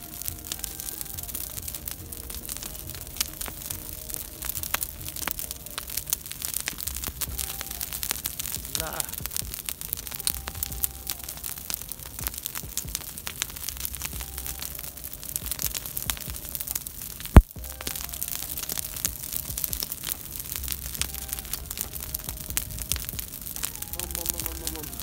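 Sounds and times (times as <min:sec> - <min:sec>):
straw fire crackling: 0:00.0 - 0:25.0.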